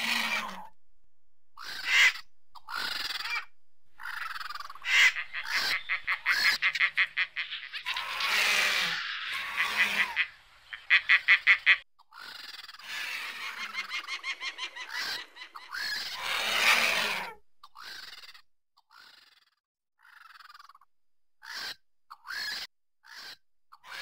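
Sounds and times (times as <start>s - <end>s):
birds calling harshly: 1.6s - 24.0s.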